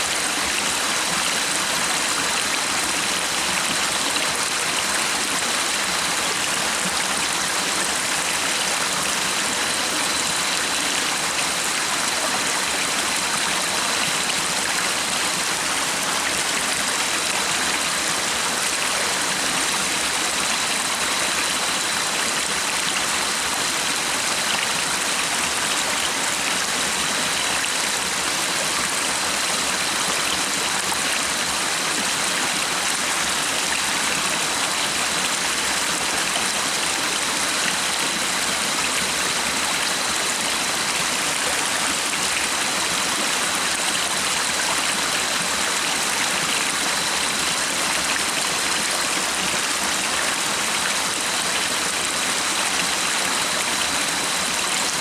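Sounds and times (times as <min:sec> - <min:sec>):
stream of water rushing: 0:00.0 - 0:55.0.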